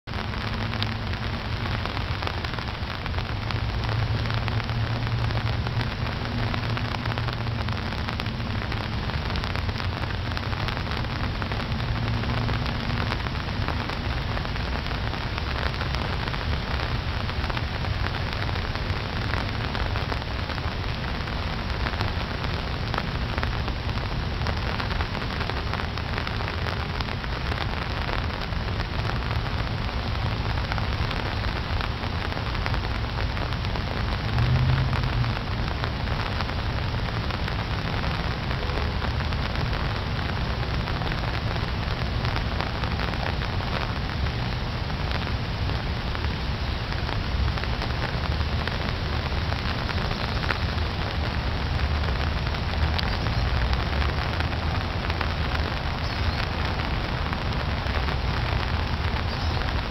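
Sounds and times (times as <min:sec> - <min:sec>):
rain falling on water: 0:00.0 - 0:59.9.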